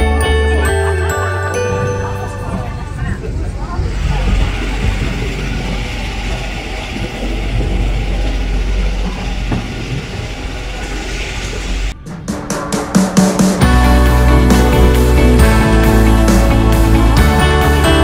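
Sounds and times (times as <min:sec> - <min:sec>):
train carriage rumbling: 0:00.0 - 0:18.0.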